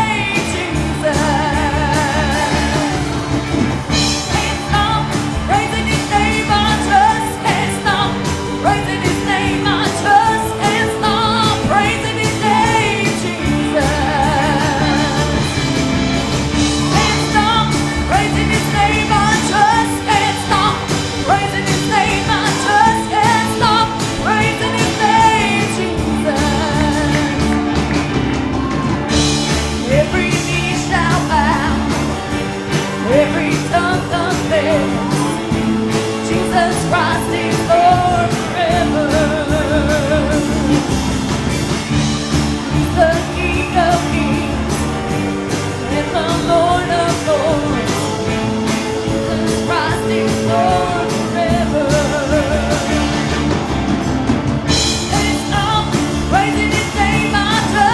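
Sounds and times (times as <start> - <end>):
band with steady drum beat: 0.0 - 57.9
singers leading gospel song: 0.0 - 57.9.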